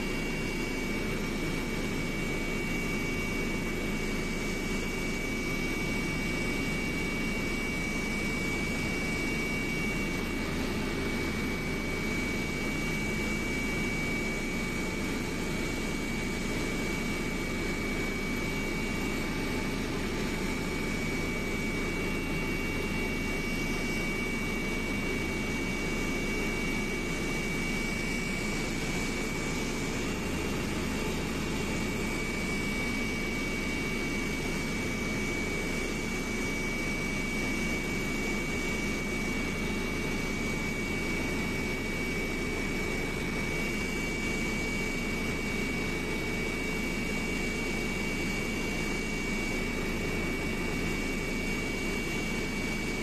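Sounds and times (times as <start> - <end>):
aircraft engine drone: 0.0 - 53.0.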